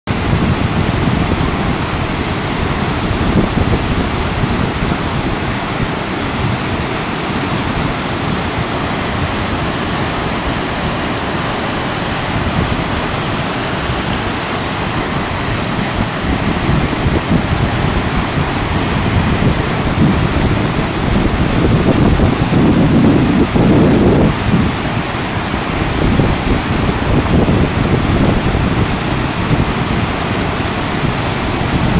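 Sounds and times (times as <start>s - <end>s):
waves breaking: 0.1s - 31.9s
white-water rapids rushing: 0.1s - 31.9s
wind buffeting microphone: 0.1s - 31.9s.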